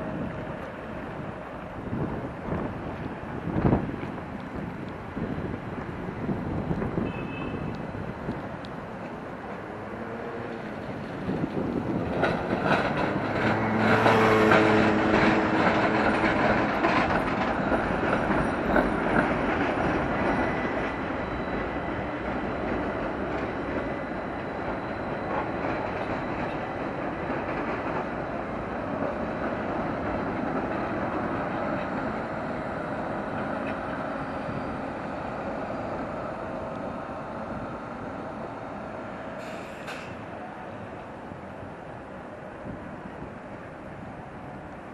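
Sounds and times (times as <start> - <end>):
rumble of wheels on rail: 0.0 - 44.9
tram motor hum: 0.0 - 44.9
tram wheels clicking over rail joints: 7.7 - 44.9.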